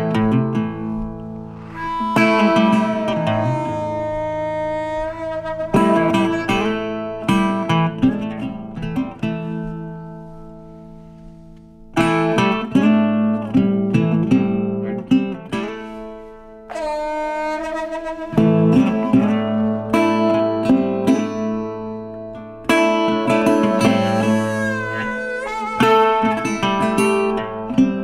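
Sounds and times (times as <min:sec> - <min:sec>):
blues acoustic guitar: 0:00.0 - 0:28.0.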